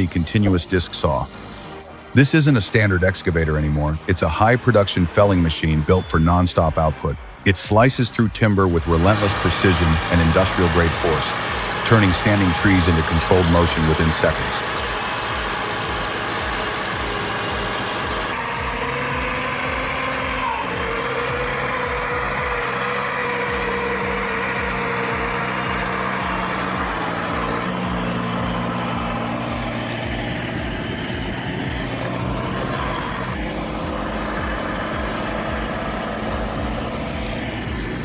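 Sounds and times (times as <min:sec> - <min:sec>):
diesel engine running: 0:00.0 - 0:38.0
mid-pitched whine: 0:00.0 - 0:38.0.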